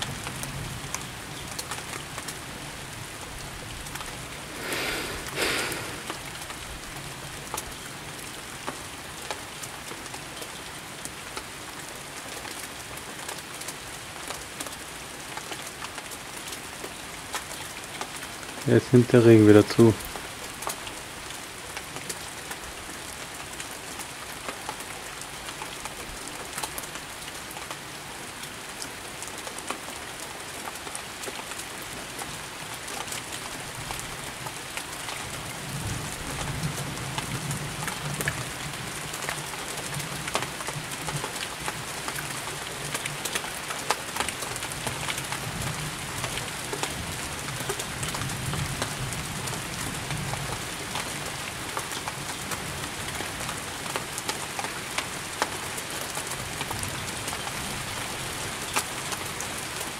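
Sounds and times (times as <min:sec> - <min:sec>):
raindrops pattering close by: 0:00.0 - 0:59.9
steady rain falling: 0:00.0 - 0:59.9.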